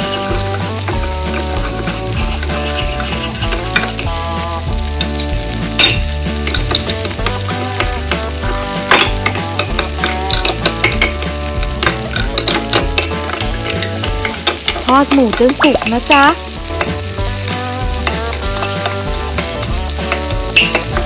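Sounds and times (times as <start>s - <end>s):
frying sizzle: 0.0s - 21.0s
light background music: 0.0s - 21.0s.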